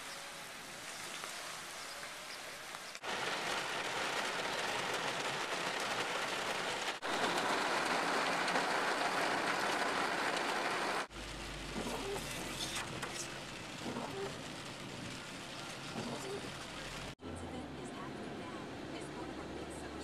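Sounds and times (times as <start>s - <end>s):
heavy rain pouring: 0.0s - 17.2s
rain heard inside a car: 0.0s - 20.0s.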